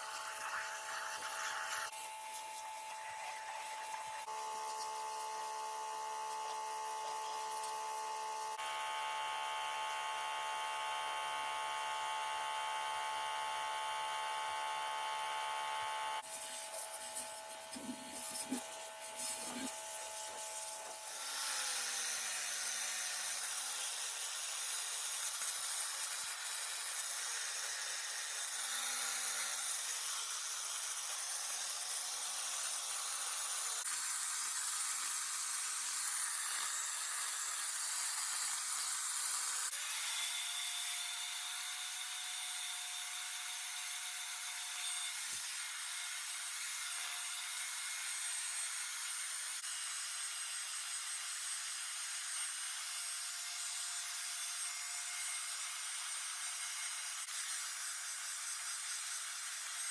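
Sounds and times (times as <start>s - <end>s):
power tool scraping a surface: 0.0s - 59.9s.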